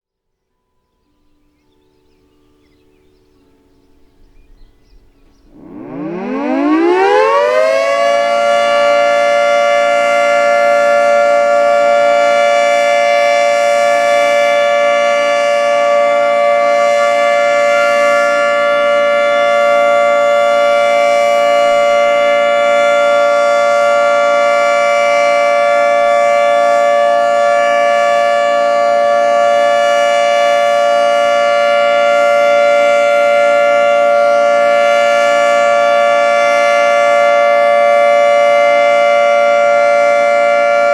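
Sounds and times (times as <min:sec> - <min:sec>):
dual-tone warning siren: 0:05.4 - 0:40.9.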